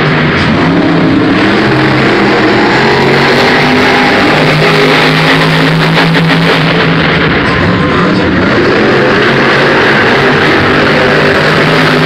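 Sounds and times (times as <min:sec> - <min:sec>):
monster truck engine running: 0:00.0 - 0:12.0
rock music: 0:00.0 - 0:12.0.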